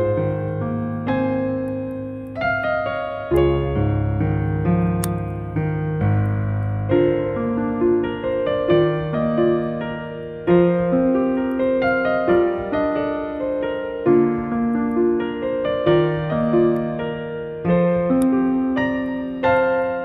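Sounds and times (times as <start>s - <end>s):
gentle electric piano melody: 0.0s - 20.0s.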